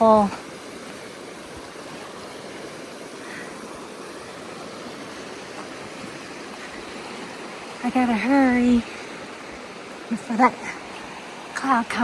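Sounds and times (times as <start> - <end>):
river rushing: 0.0 - 12.0
small waterfalls pouring: 0.0 - 12.0.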